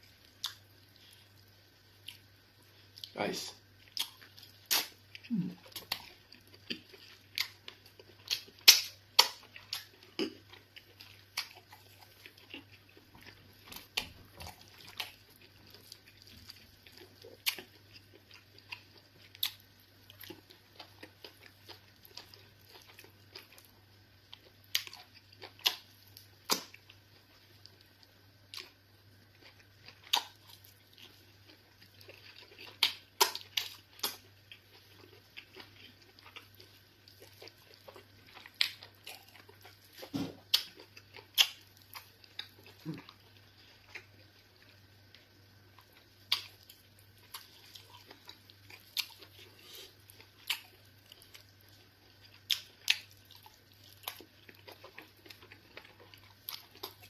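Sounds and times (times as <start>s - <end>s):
faint steady hum: 0.0s - 57.0s
person chewing wet mouth sounds: 3.9s - 23.7s, 29.4s - 45.2s, 45.8s - 57.0s.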